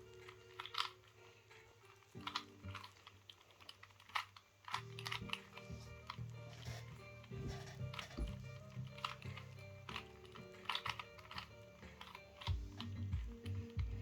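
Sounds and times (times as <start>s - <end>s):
plastic puzzle cube clicking: 0.0s - 14.0s.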